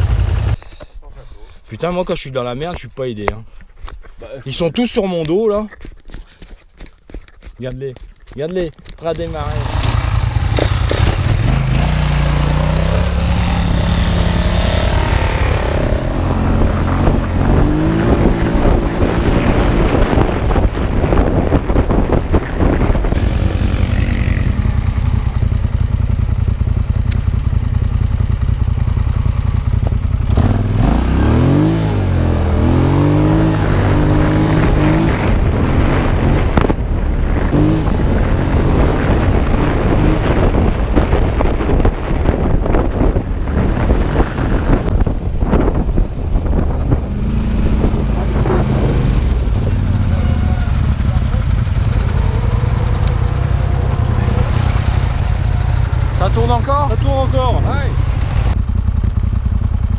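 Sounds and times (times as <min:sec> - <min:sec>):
quad bike engine revving: 0:00.0 - 0:00.6, 0:09.1 - 0:59.9
wind noise on microphone: 0:05.6 - 0:58.6.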